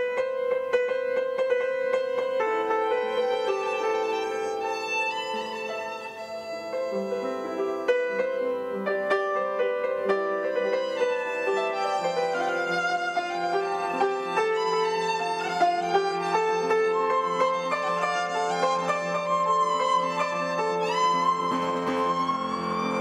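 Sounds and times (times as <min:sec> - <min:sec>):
piano: 0:00.0 - 0:23.0
violin: 0:00.0 - 0:23.0.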